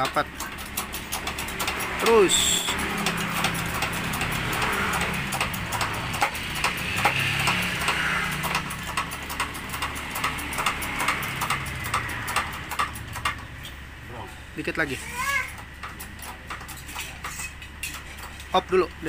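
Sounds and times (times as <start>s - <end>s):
metallic clicks and knocks: 0.0s - 13.8s, 15.4s - 18.9s.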